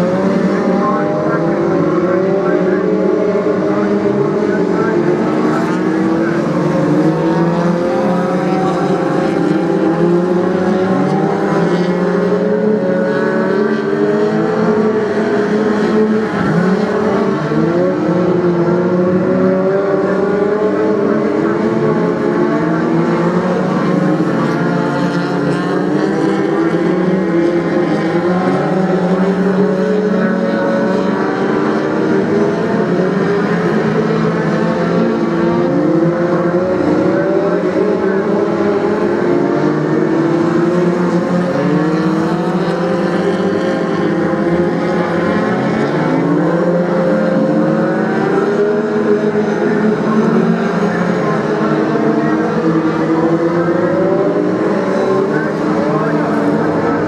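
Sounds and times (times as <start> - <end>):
stock car engines racing: 0.0 - 57.0.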